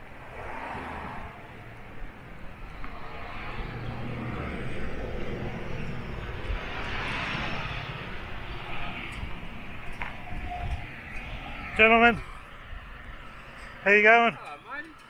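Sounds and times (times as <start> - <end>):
engine rumble passing: 0.0 - 15.0.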